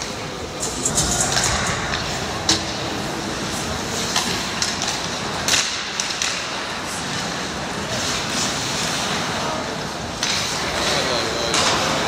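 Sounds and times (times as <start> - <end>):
hockey sticks and puck clacking: 0.0 - 12.0
skate blades scraping ice: 0.0 - 12.0.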